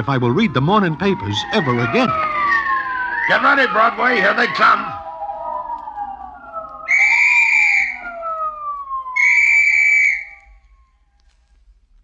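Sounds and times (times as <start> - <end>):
police sirens winding down: 0.0 - 11.3
shrill whistle blasts: 0.5 - 11.1.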